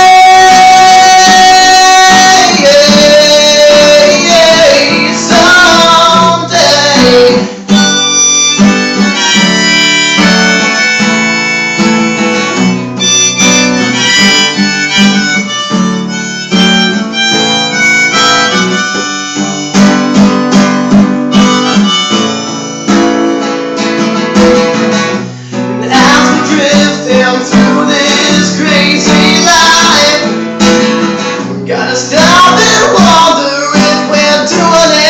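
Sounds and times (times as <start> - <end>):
harmonica solo: 0.0 - 35.0
strummed acoustic guitar: 0.0 - 35.0.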